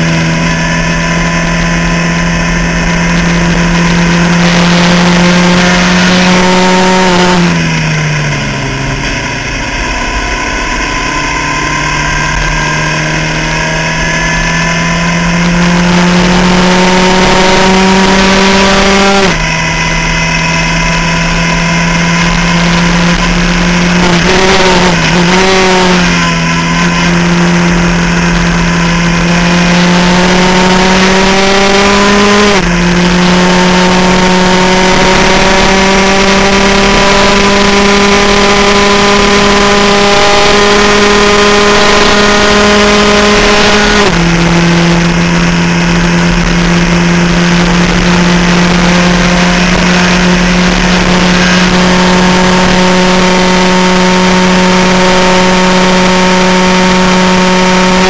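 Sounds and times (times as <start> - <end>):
race car engine shifting gears: 0.1 - 58.0.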